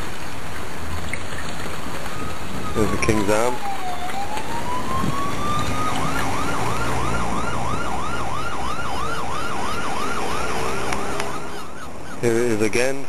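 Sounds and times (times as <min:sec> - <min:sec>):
emergency siren wailing and yelping: 0:01.8 - 0:12.6.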